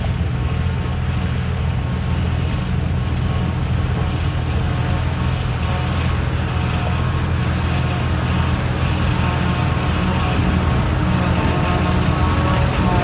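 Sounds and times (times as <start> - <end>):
harvester engine drone: 0.0 - 13.0.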